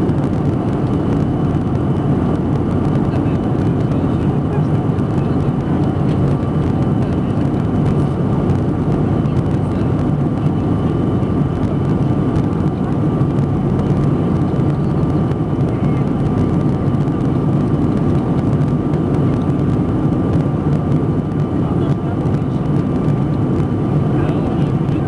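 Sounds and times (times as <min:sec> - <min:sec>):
jet engine rumble: 0:00.0 - 0:25.0
thin steady whine: 0:00.0 - 0:25.0.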